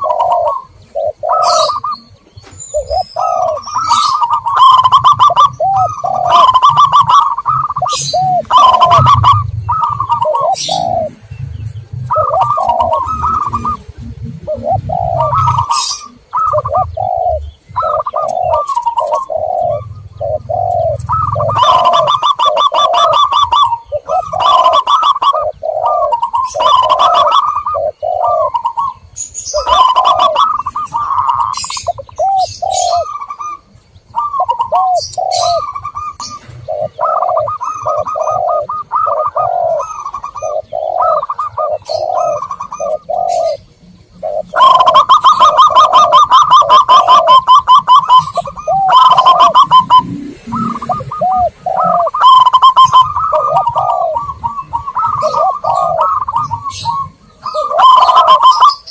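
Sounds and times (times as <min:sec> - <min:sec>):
doves cooing: 0:00.0 - 0:58.9
small birds chirping: 0:00.0 - 0:58.9.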